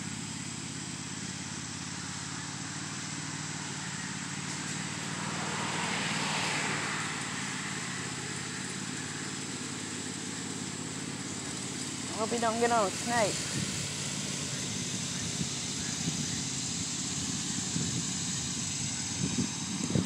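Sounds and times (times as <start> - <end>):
distant lawnmower engine running: 0.0 - 20.0.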